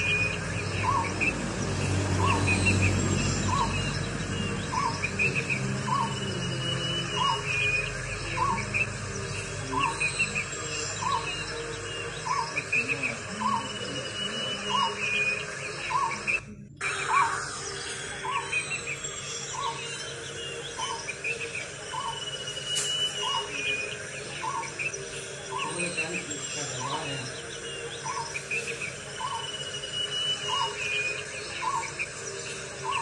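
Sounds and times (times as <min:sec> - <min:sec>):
bird call: 0:00.0 - 0:33.0
bird chirps: 0:00.0 - 0:33.0
insects buzzing: 0:00.0 - 0:33.0.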